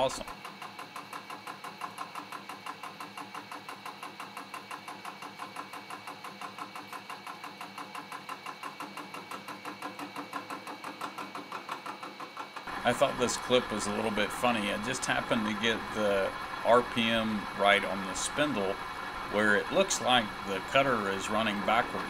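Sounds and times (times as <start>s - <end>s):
milling machine running: 0.0s - 22.0s
rapid ticking of milling cutter: 0.0s - 22.0s.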